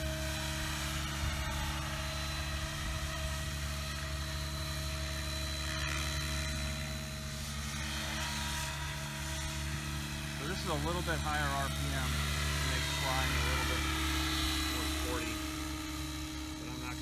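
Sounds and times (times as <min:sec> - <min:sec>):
rc helicopter rotor and motor: 0:00.0 - 0:17.0.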